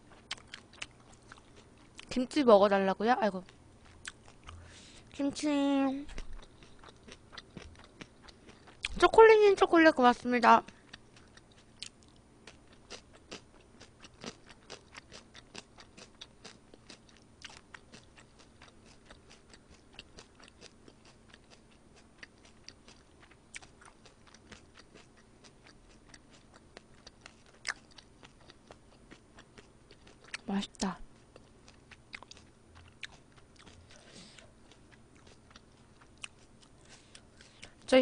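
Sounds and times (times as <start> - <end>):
person chewing food: 0.0 - 2.1, 3.4 - 5.2, 6.0 - 9.0, 10.7 - 30.5, 31.1 - 37.9.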